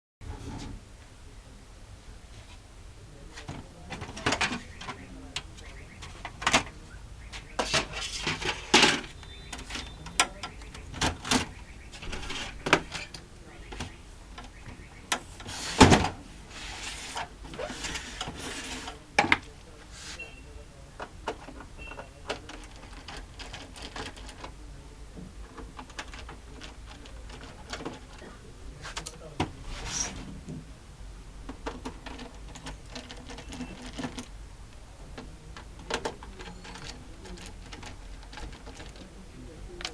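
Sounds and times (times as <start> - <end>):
steady low hum: 0.2 - 39.9
hard parts clicking and clattering: 3.4 - 19.8, 21.0 - 24.6, 25.2 - 30.7, 31.4 - 34.4, 35.0 - 39.9.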